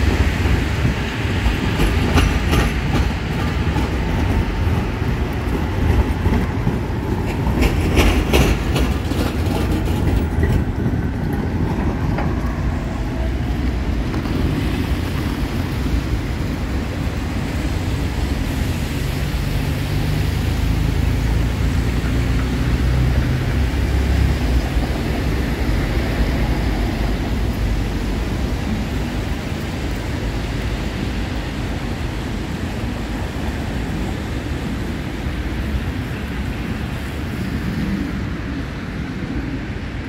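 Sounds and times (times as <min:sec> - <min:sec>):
tram wheels clicking over joints: 0:00.0 - 0:20.1, 0:20.9 - 0:37.9
city street noise: 0:00.0 - 0:40.0.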